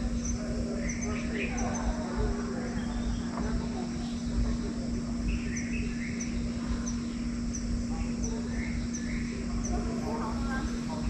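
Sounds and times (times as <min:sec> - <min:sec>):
lower bird calls: 0:00.0 - 0:11.0
steady low hum: 0:00.0 - 0:11.0.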